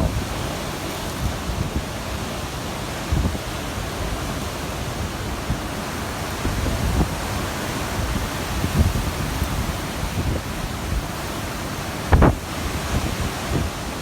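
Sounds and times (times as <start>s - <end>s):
surf: 0.0s - 14.0s
wind: 0.0s - 14.0s
wind buffeting microphone: 0.0s - 14.0s.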